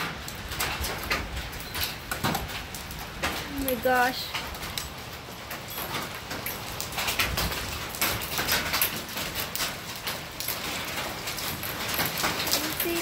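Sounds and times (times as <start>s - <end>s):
hailstones clattering on hard surfaces: 0.0s - 13.0s
rain-like hiss: 0.0s - 13.0s.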